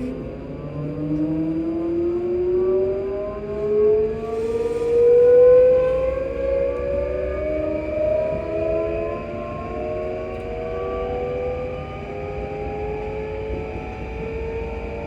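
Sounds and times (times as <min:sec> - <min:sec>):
electric train motors whining: 0:00.0 - 0:15.0.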